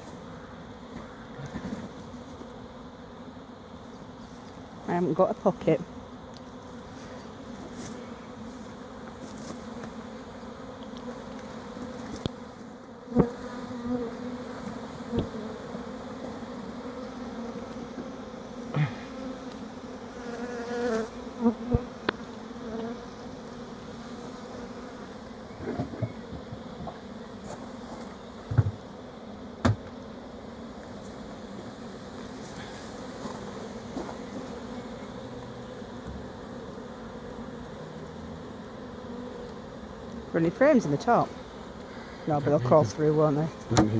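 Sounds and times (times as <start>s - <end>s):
honeybees buzzing: 0.0s - 43.9s.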